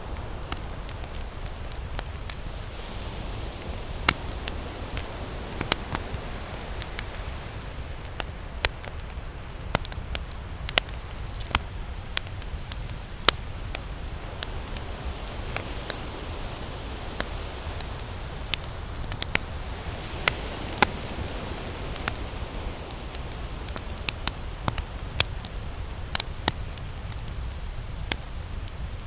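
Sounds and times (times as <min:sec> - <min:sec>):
campfire crackling: 0:00.0 - 0:29.0
pops and snaps of burning wood: 0:00.0 - 0:29.0.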